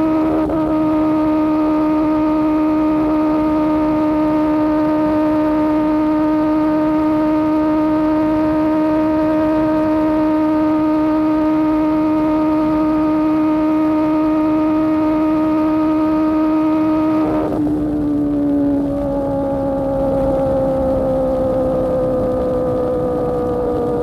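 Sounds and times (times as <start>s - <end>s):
motorcycle engine at steady revs: 0.0s - 24.0s.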